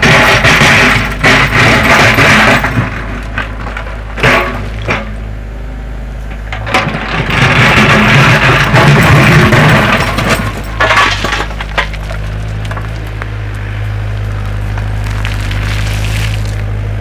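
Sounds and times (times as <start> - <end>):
wood cracking and splintering: 0.0 - 5.1, 6.7 - 17.0.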